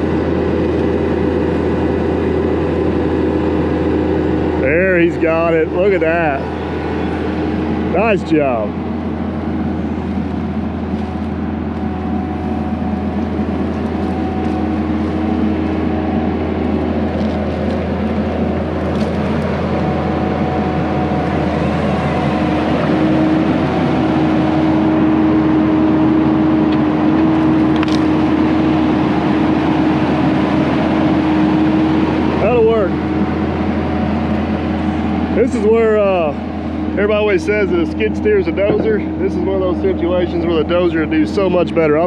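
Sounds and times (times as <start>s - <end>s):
diesel engines running: 0.0s - 42.0s.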